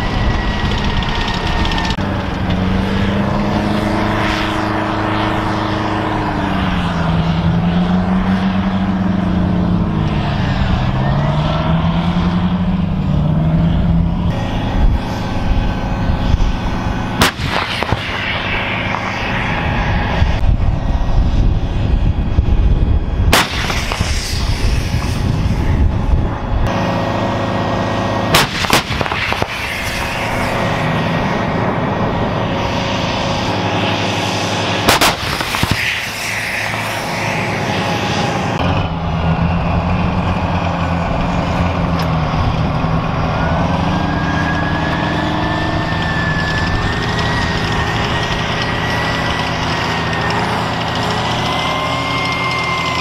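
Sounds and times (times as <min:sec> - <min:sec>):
diesel engines running: 0:00.0 - 0:53.0
howitzer blasts: 0:00.0 - 0:53.0.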